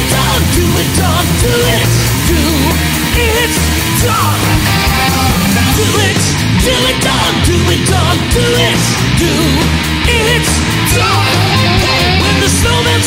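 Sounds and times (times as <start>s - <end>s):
rock song with singing: 0.0s - 13.0s.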